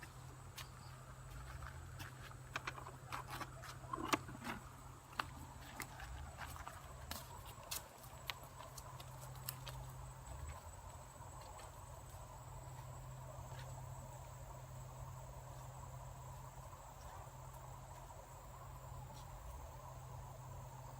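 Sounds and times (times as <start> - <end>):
insects trilling: 0.0 - 20.9.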